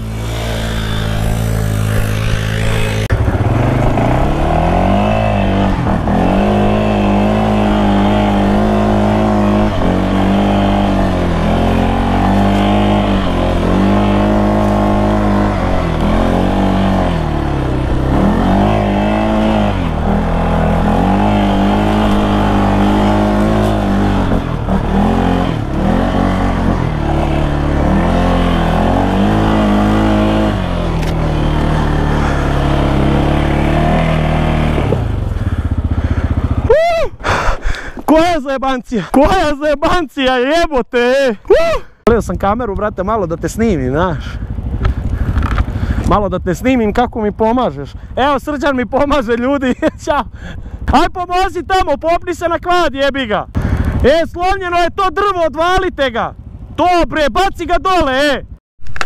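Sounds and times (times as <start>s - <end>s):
off-road vehicle engine revving: 0.0s - 38.1s, 42.2s - 51.1s, 52.4s - 54.2s.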